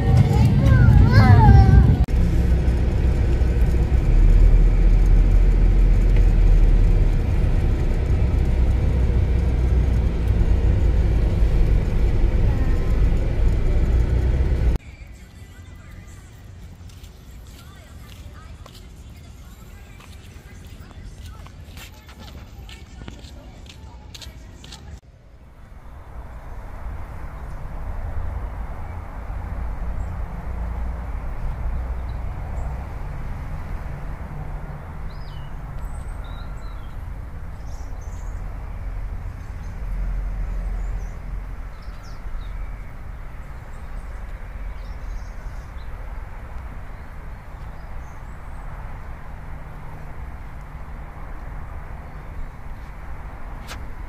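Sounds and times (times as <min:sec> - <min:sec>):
low rumble: 0:00.0 - 0:14.8, 0:25.2 - 0:54.0.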